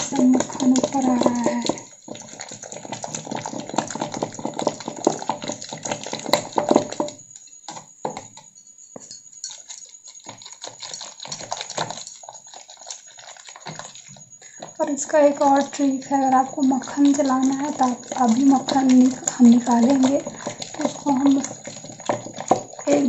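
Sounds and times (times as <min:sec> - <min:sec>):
wet churning and splashing: 0:00.0 - 0:08.4, 0:09.4 - 0:23.0.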